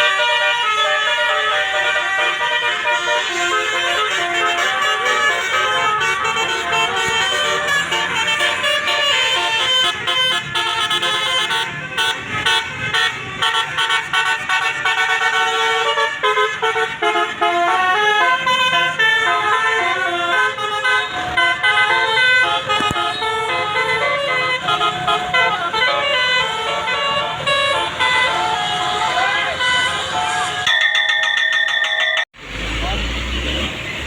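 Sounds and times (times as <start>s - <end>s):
musical air horn melody: 0.0s - 30.9s.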